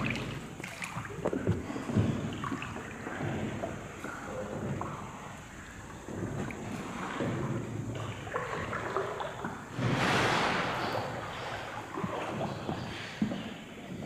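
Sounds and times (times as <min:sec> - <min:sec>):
water sloshing around a boat: 0:00.0 - 0:14.0.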